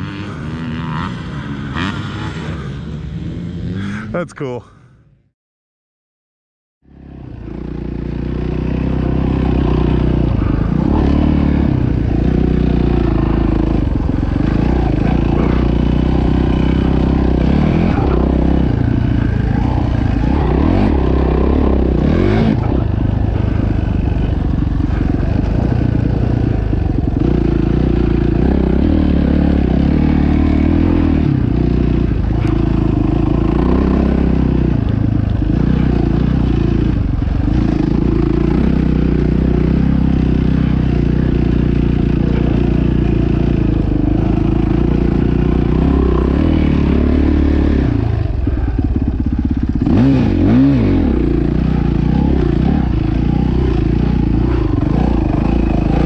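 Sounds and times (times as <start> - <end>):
dirt bike engine revving: 0.0 - 4.4, 6.9 - 56.0.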